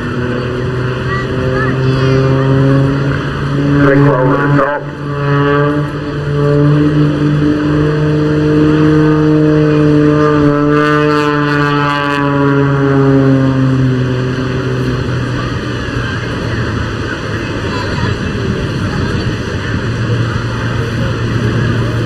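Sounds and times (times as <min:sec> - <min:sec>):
aircraft piston engine droning: 0:00.0 - 0:22.0.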